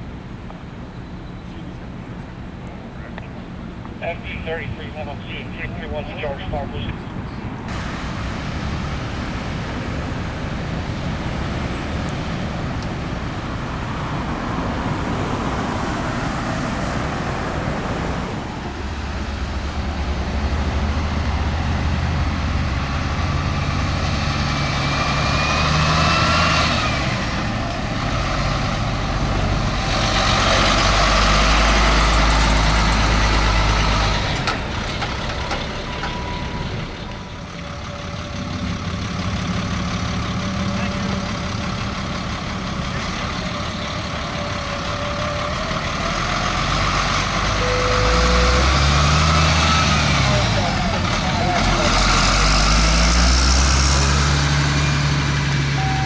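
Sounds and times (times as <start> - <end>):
large vehicle engine running: 0.0 - 56.0
road traffic passing: 0.0 - 56.0.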